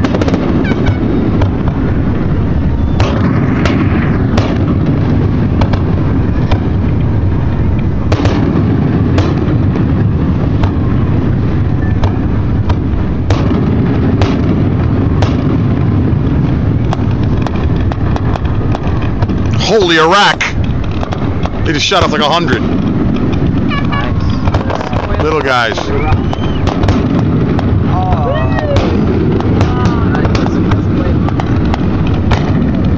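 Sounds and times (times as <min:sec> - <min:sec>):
continuous low rumble: 0:00.0 - 0:32.9
fireworks bangs: 0:00.0 - 0:32.9.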